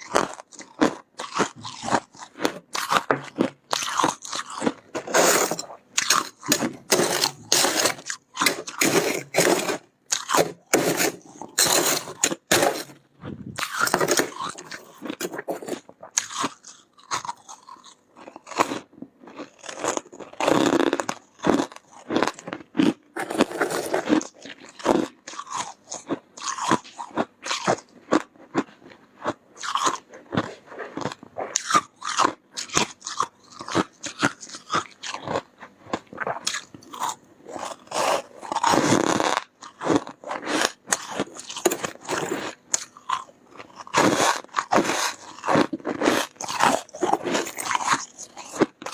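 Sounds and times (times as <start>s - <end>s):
crunchy chewing of frost: 0.0s - 13.0s, 13.6s - 48.9s.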